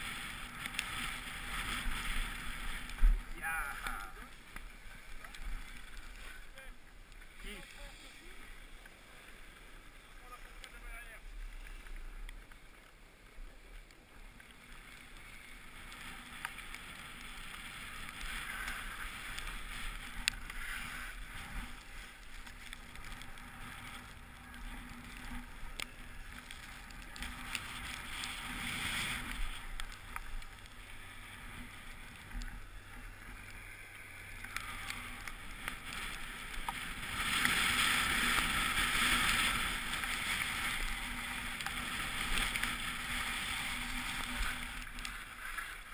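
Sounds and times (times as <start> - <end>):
skis sliding over packed snow: 0.0 - 45.9.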